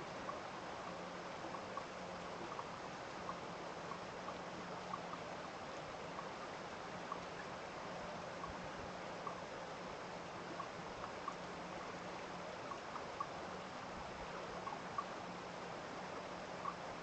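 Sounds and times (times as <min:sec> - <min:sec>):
small stream running: 0:00.0 - 0:17.0.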